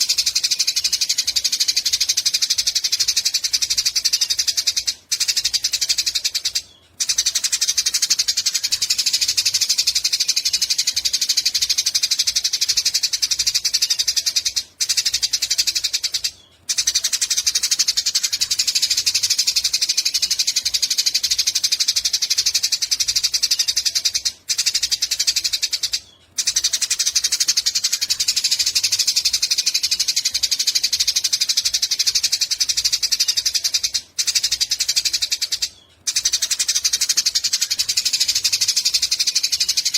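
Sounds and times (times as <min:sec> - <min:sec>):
sparrow buzzing chatter song: 0:00.0 - 0:39.9.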